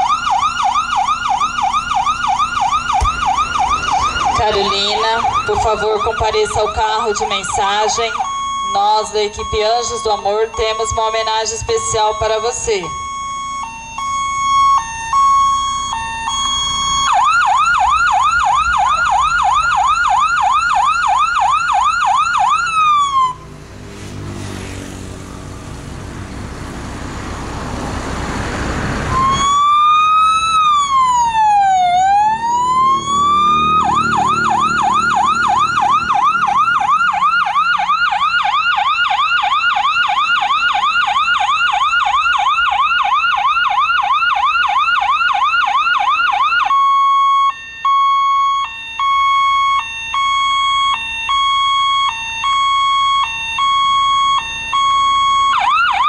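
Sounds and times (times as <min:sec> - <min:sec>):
electronic siren beeps: 0:00.0 - 0:23.5, 0:29.1 - 0:56.0
siren fast yelp: 0:00.0 - 0:23.5, 0:29.1 - 0:56.0
siren slow wail: 0:00.0 - 0:56.0.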